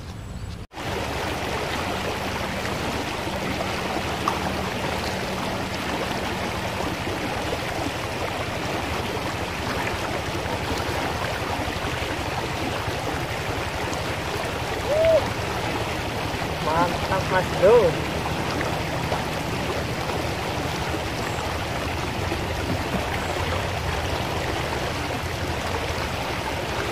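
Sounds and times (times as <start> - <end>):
river rushing over rocks: 0.8 - 26.9.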